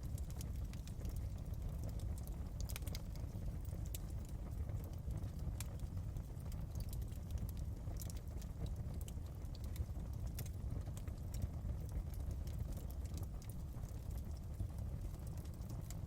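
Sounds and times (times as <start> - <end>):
wood fire crackling in fireplace: 0.0 - 16.0.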